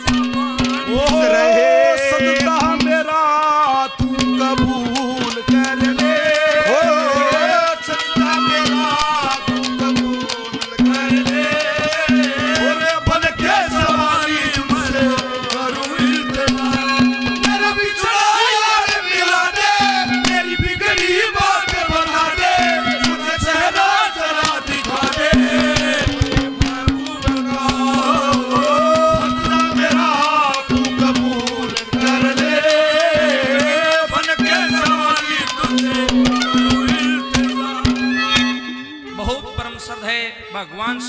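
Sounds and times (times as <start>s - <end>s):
fast hand drum strokes: 0.0s - 38.9s
wavering melody: 0.0s - 41.0s.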